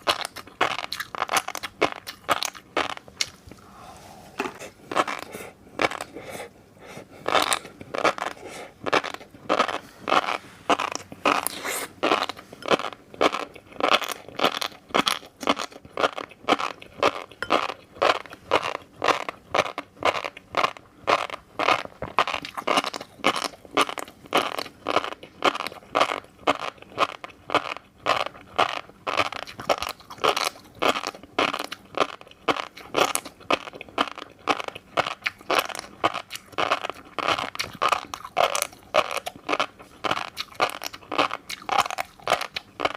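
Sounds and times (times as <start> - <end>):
chewing fish roe: 0.0 - 3.8, 4.4 - 42.9.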